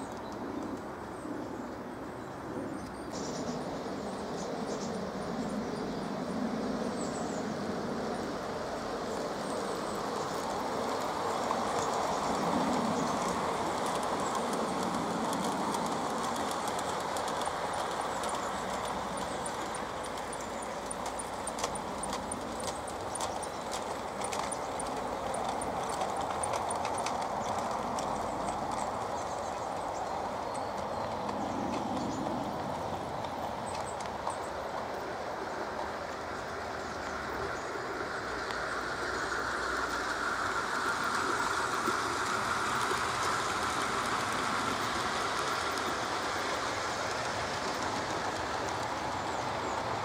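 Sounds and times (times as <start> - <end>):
model trains rolling on track: 0.0 - 50.0
wheels clicking over rail joints: 7.0 - 50.0.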